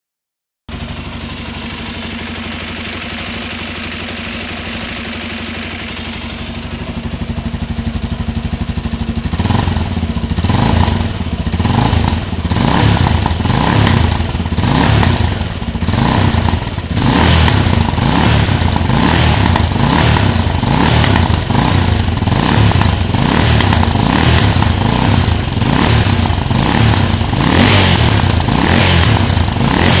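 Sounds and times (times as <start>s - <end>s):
motorcycle engine idling and revving: 0.7s - 30.0s.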